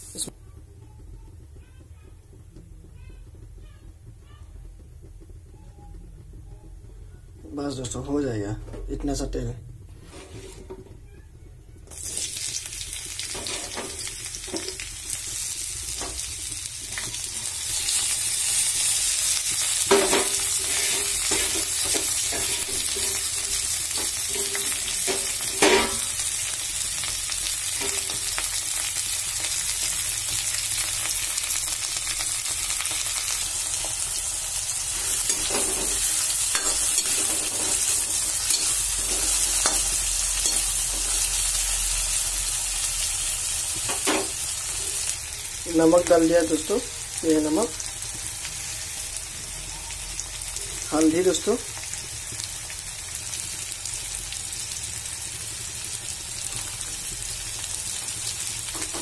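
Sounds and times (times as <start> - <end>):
onions sizzling in hot oil: 0.0 - 0.4, 11.8 - 59.0.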